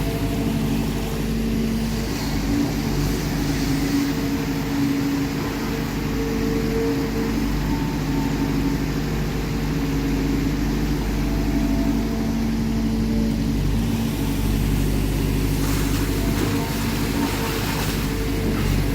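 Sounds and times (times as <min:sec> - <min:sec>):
heavy machinery engine running: 0:00.0 - 0:18.9.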